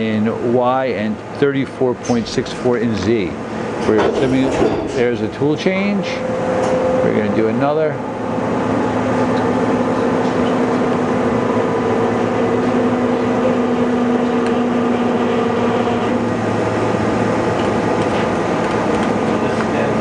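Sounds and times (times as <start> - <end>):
machining center mechanical hum: 0.0 - 20.0
pitched machine whine: 2.2 - 20.0.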